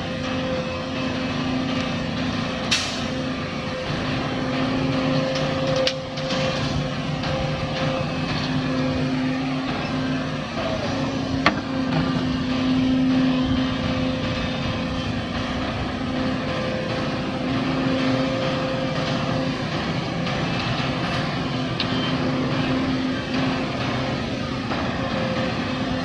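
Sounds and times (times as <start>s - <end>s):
heavy diesel machinery engine: 0.0s - 26.0s.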